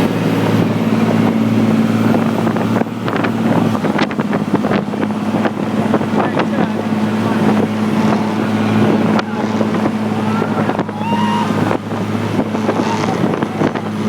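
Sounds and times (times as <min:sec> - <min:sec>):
motorboat engine droning: 0:00.0 - 0:14.0
rushing water: 0:00.0 - 0:14.0
wind noise on microphone: 0:00.0 - 0:14.0.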